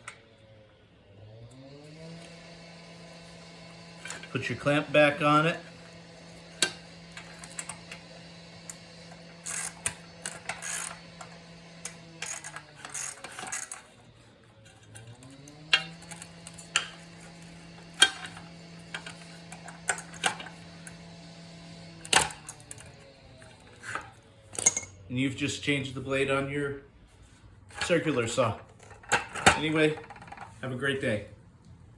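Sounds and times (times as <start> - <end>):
steady low hum: 1.7 - 29.6.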